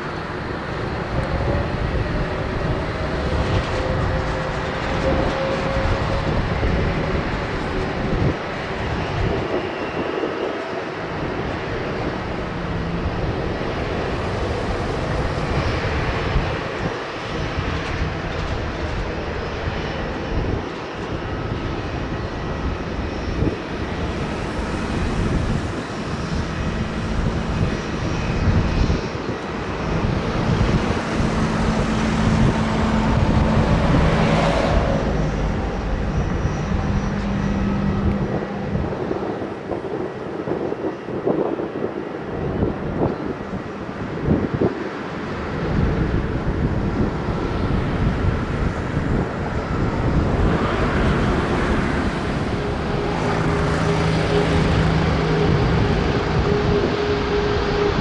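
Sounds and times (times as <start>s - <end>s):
jet engine roar and whine: 0.0s - 58.0s.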